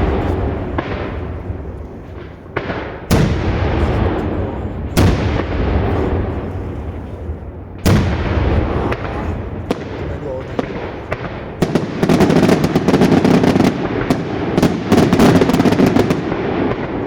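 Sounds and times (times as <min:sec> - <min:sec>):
fireworks bangs with echo: 0:00.0 - 0:17.0.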